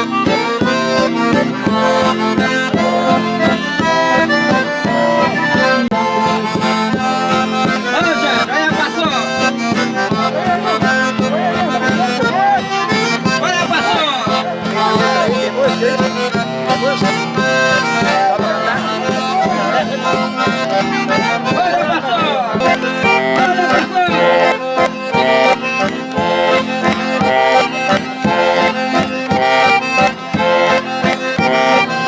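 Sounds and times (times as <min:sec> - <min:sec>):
button accordion folk music: 0:00.0 - 0:32.0.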